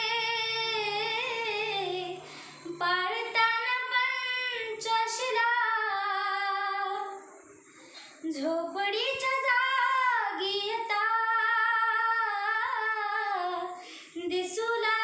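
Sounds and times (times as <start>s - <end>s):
girl singing: 0.0s - 7.2s, 8.3s - 15.0s.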